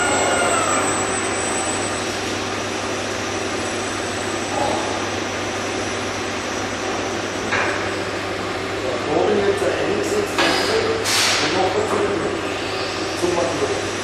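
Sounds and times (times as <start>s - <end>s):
continuous machinery hiss: 0.0s - 14.0s
low machinery hum: 0.0s - 14.0s.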